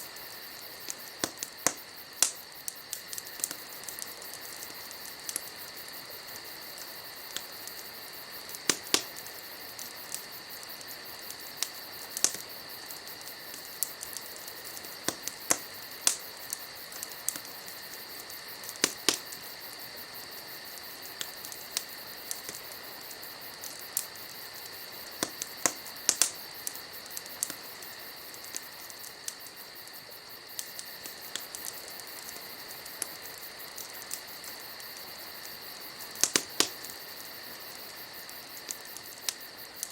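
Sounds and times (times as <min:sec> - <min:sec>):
campfire crackling and popping: 0:00.0 - 0:39.9
insect trill: 0:00.0 - 0:39.9.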